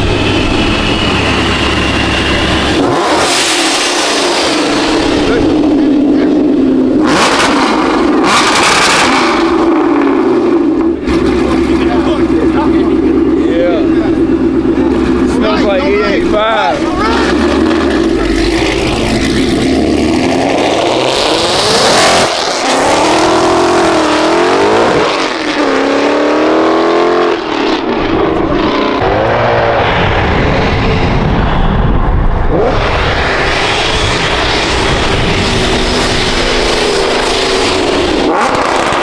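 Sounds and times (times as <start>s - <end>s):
car engines revving and accelerating: 0.0s - 39.0s.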